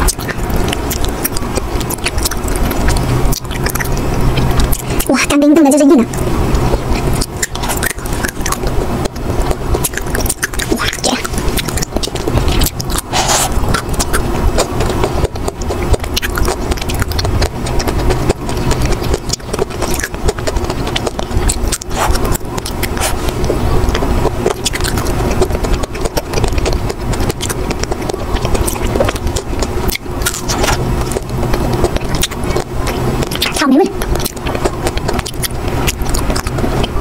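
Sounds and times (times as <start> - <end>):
crunching frozen ice cream: 0.0 - 37.0
steady low hum: 0.0 - 37.0.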